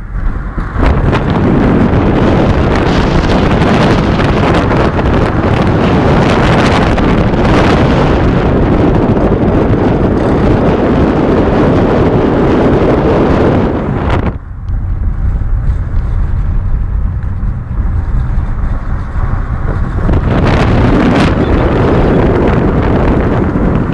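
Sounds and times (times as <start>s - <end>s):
road and wind noise: 0.0s - 23.9s.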